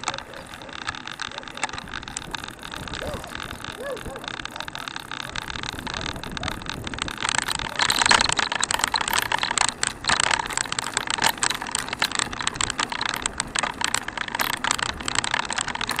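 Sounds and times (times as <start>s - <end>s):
handcycle rattling over rough asphalt: 0.0s - 16.0s.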